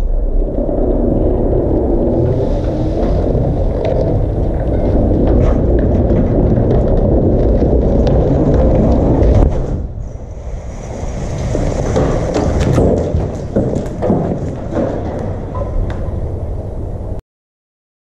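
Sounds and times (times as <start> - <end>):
chimney collapsing rumble: 0.0 - 17.2
masonry cracking: 0.5 - 10.0, 10.9 - 16.2.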